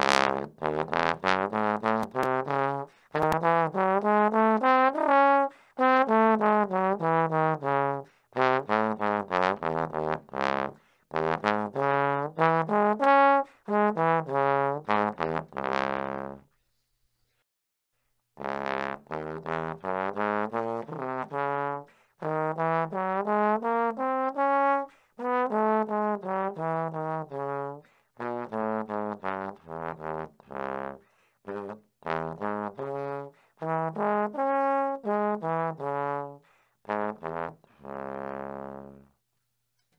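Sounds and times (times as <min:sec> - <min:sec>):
trombone playing scales: 0:00.0 - 0:16.5, 0:18.4 - 0:39.2.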